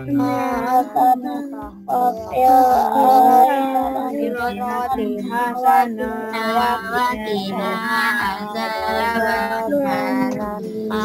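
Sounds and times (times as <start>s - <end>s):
held backing notes: 0.0s - 11.0s
person singing: 0.0s - 11.0s.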